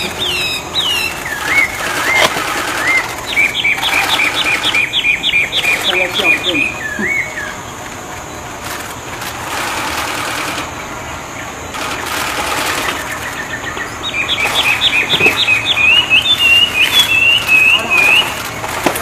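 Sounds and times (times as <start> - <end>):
songbird warbling trill: 0.0 - 7.8, 11.3 - 18.8
songbird singing: 0.0 - 19.0.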